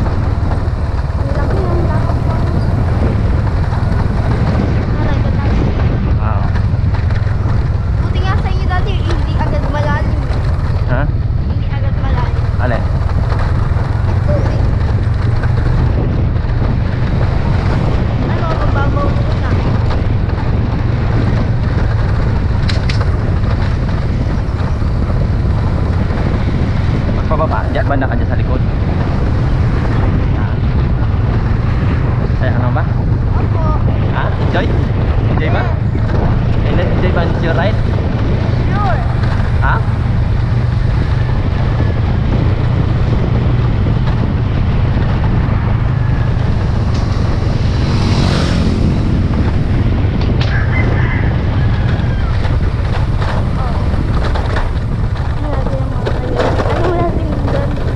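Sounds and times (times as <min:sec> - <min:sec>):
motorcycle engine drone: 0:00.0 - 0:57.9
wind rushing over microphone: 0:00.0 - 0:57.9.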